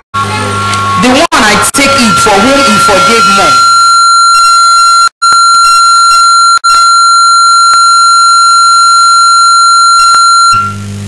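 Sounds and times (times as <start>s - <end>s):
microphone feedback squeal: 0.2s - 10.9s.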